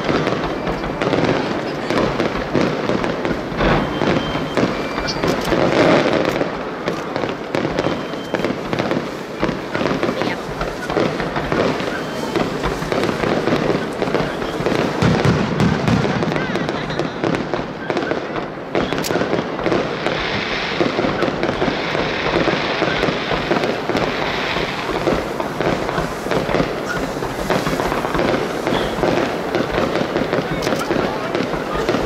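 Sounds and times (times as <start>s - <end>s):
fireworks bursting and crackling: 0.0s - 32.0s
sharp firework crack: 0.0s - 32.0s.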